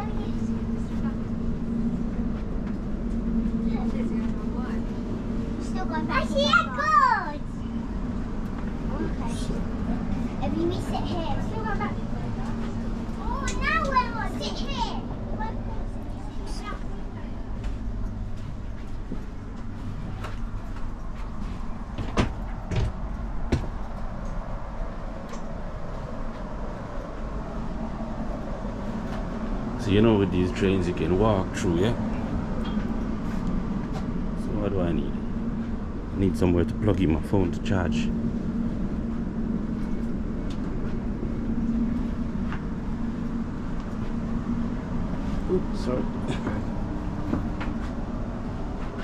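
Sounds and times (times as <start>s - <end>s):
constant hum: 0.0s - 49.0s
train rumbling: 0.0s - 49.0s.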